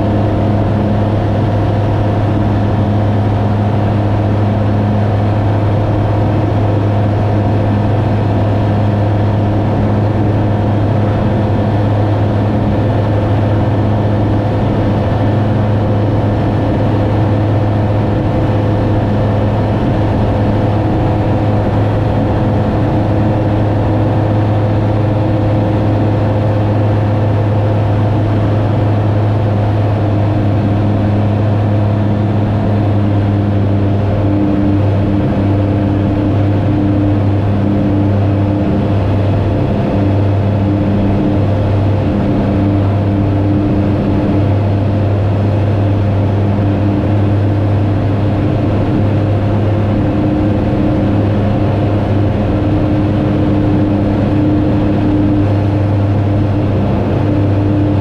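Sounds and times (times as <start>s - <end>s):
aircraft engine and propeller hum: 0.0s - 58.0s.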